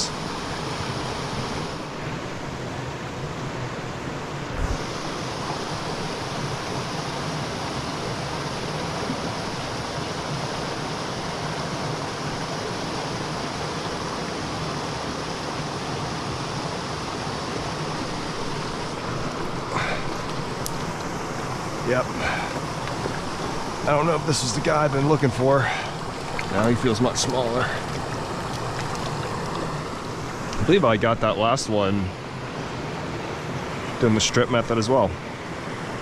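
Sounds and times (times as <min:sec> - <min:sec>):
stream water rushing: 0:00.0 - 0:36.0.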